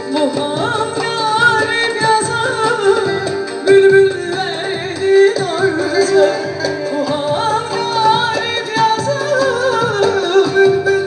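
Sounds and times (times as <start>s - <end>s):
live band with lute and keyboard: 0.0s - 11.0s
woman singing into a microphone: 0.0s - 11.0s.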